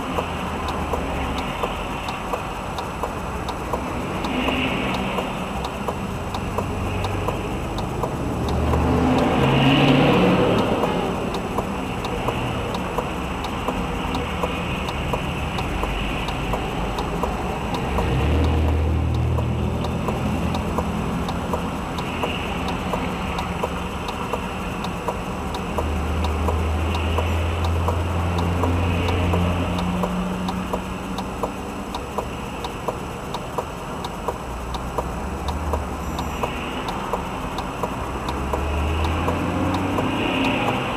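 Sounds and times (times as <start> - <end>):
car engine and road noise: 0.0 - 40.9
steady ticking: 0.0 - 40.9.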